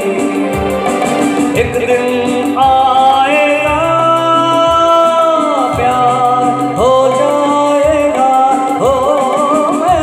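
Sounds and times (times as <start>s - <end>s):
live band music: 0.0s - 10.0s
steady thumping beat: 0.0s - 10.0s.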